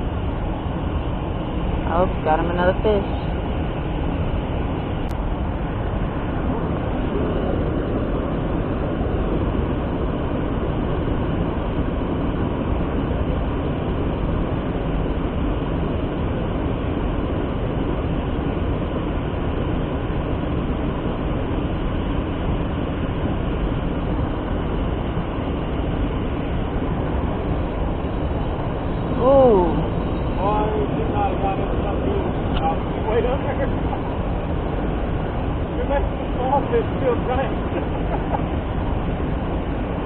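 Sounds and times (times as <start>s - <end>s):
low rushing noise: 0.0s - 40.0s.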